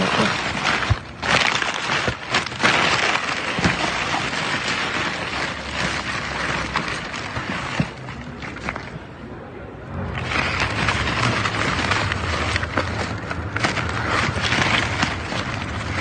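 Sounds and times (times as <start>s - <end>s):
plastic and paper rustling: 0.0s - 9.1s, 9.9s - 16.0s.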